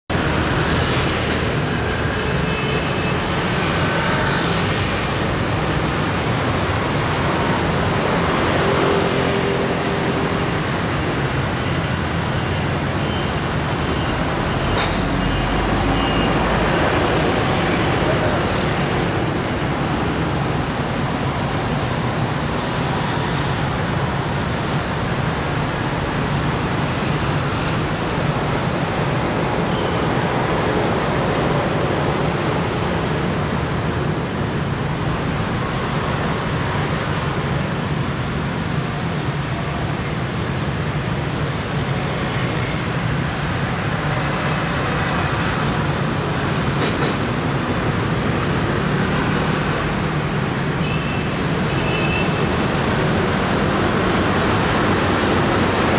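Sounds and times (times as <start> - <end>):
dense road traffic: 0.1 - 55.9.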